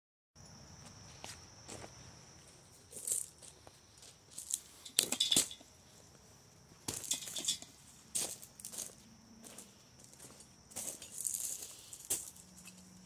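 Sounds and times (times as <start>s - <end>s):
high insect drone: 0.4s - 13.0s
footsteps on gravel: 0.8s - 12.8s.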